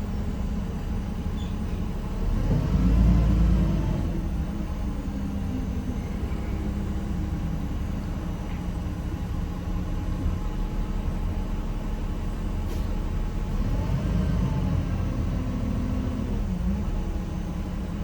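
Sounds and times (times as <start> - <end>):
bus diesel engine humming: 0.0 - 18.0.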